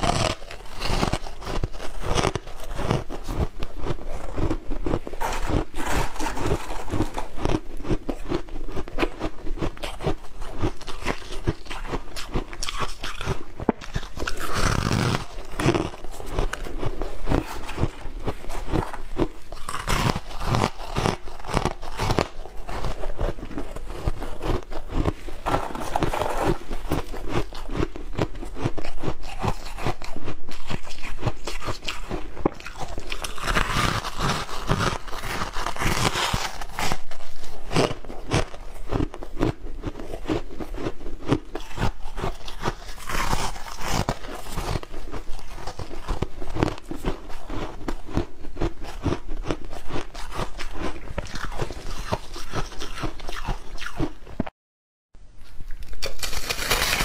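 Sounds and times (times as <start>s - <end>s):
ice crunching while chewed: 0.0s - 54.5s, 55.4s - 57.0s.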